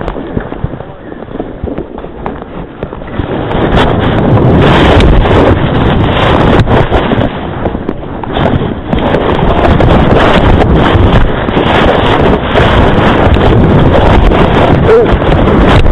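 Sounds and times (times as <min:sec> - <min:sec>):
skis scraping snow: 0:00.0 - 0:14.8
wind rushing over microphone: 0:00.0 - 0:15.9.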